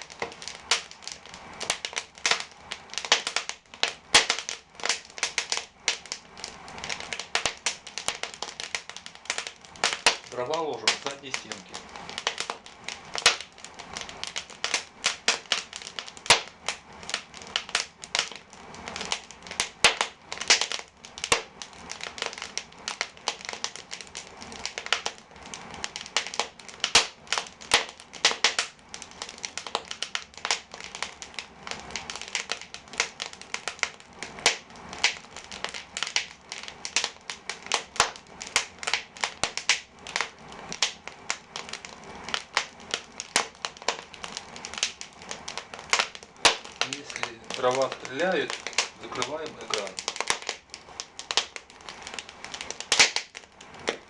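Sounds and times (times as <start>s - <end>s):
logs crackling and popping: 0.0s - 54.0s.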